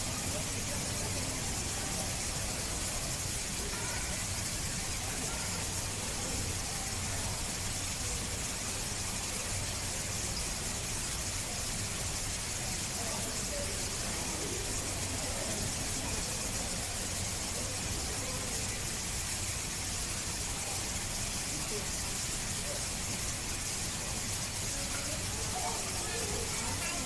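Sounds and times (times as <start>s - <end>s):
background hiss: 0.0s - 27.0s
faint murmuring voices: 0.0s - 27.0s.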